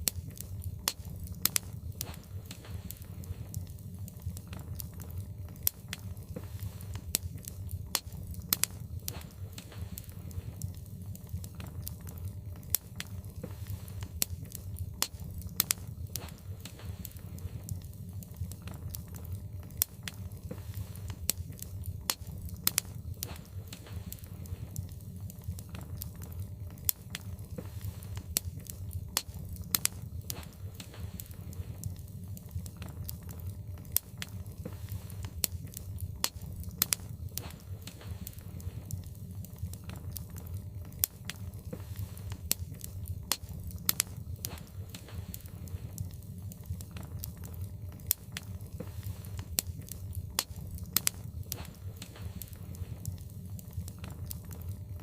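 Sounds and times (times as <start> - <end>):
steady low rumble: 0.0 - 55.0
wood fire crackling: 0.0 - 55.0.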